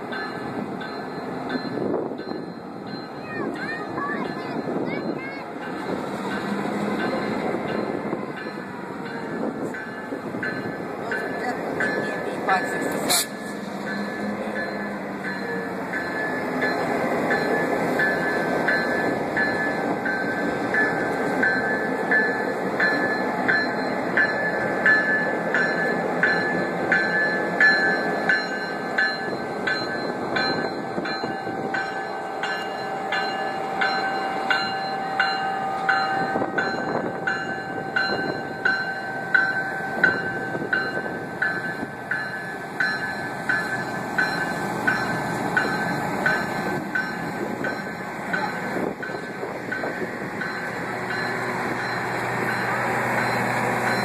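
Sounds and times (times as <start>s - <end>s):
crossing bell dinging: 0.0s - 54.0s
train rumbling past: 0.0s - 54.0s.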